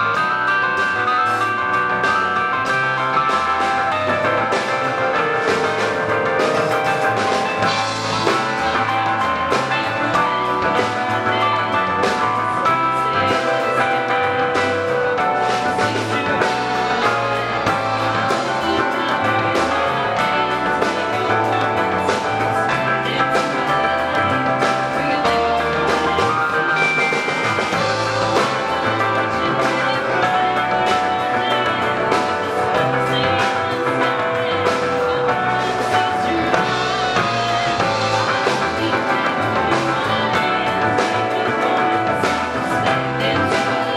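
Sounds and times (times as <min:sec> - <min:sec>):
bass guitar: 0:00.0 - 0:43.9
drum kit beat: 0:00.0 - 0:43.9
electric guitars: 0:00.0 - 0:43.9
keyboard holding notes: 0:00.0 - 0:43.9.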